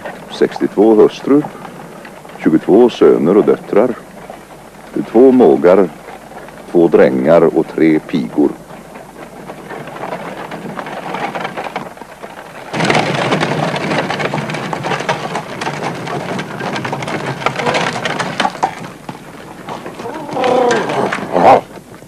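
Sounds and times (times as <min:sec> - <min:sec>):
carriage wheels and hooves on gravel: 0:00.0 - 0:22.0.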